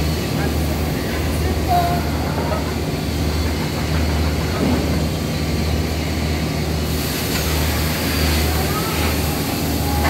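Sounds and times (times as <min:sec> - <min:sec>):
factory machinery din: 0:00.0 - 0:10.0.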